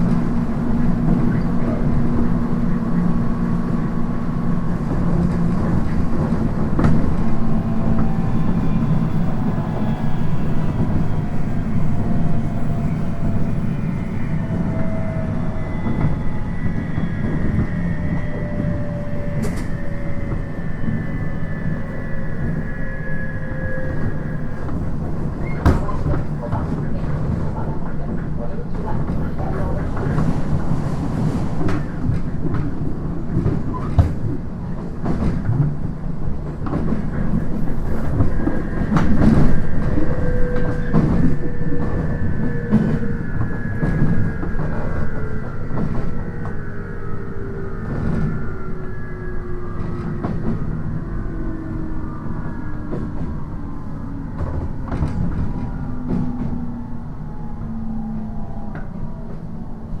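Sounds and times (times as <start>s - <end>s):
train rumble: 0.0s - 60.0s.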